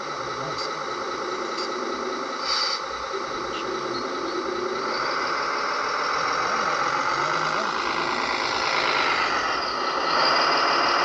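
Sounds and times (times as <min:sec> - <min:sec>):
simulated diesel engine running: 0:00.0 - 0:11.0.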